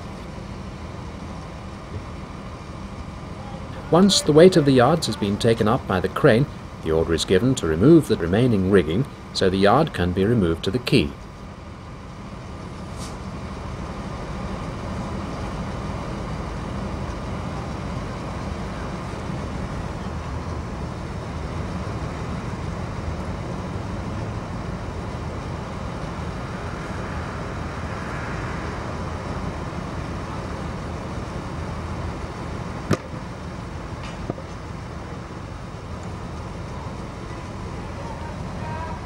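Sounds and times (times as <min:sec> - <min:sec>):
crane engine rumbling: 0:00.0 - 0:39.0.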